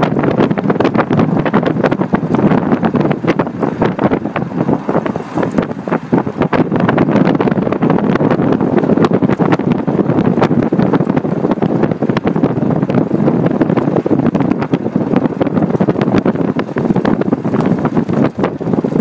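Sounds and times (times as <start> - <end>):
tire noise on rough road: 0.0 - 19.0
wind buffeting microphone: 0.0 - 19.0.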